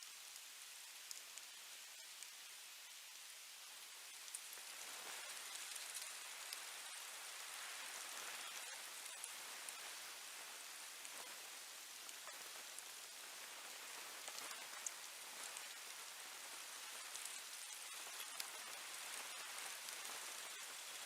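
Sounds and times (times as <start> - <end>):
faint rain patter: 0.0 - 21.0.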